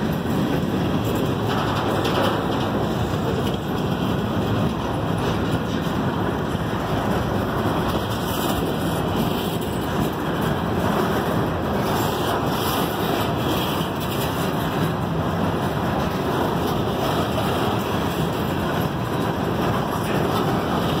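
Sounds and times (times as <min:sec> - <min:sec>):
steel wheels rolling on rail: 0:00.0 - 0:21.0.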